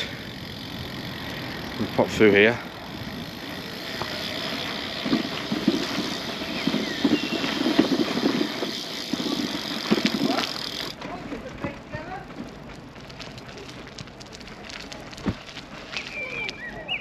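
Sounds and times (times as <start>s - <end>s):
bicycle rolling noise: 0.0s - 17.0s.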